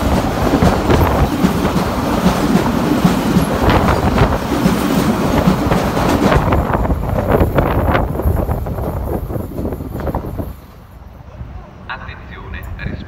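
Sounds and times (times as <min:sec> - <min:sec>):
wheels clacking over rail joints: 0:00.0 - 0:10.6
freight train rolling past: 0:00.0 - 0:13.0.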